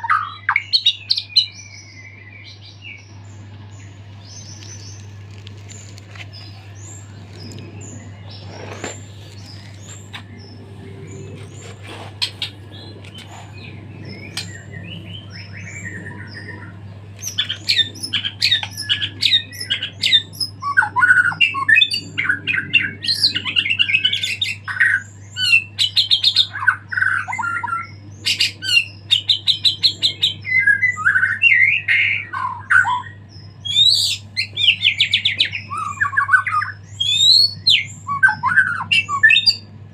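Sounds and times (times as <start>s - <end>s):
bird singing: 0.0s - 39.9s
steady low hum: 0.0s - 39.9s.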